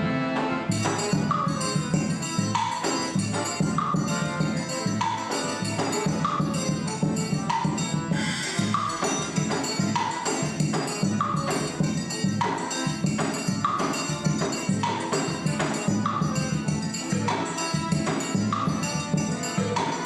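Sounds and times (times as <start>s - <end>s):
button accordion melody: 0.0s - 20.0s.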